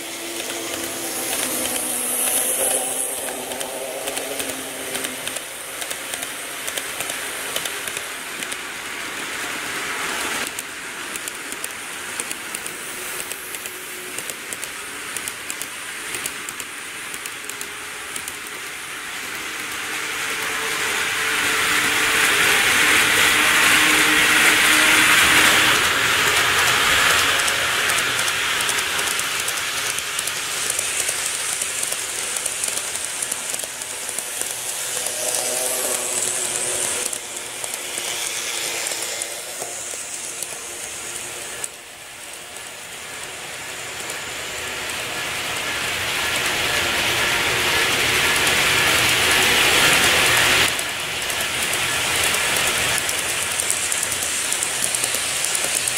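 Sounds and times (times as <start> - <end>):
model trains whirring and rattling: 0.0 - 55.9.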